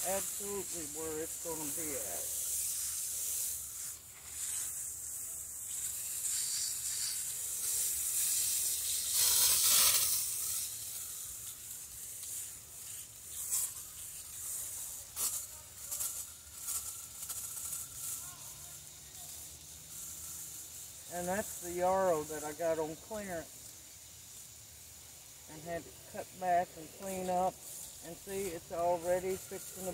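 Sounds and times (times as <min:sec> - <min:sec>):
hose spray hissing onto soil: 0:00.0 - 0:29.9.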